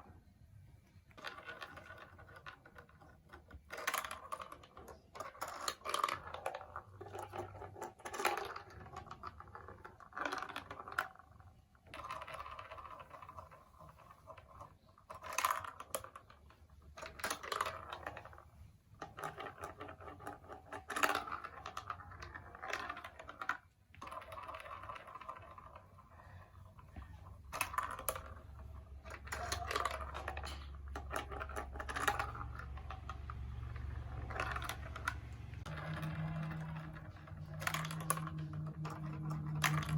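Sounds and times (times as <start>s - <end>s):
plastic marble run clicks: 1.1s - 39.9s.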